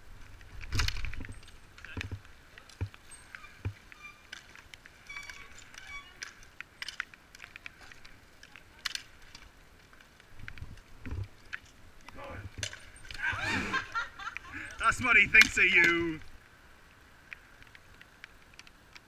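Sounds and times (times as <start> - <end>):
bicycles rattling: 0.0 - 19.0.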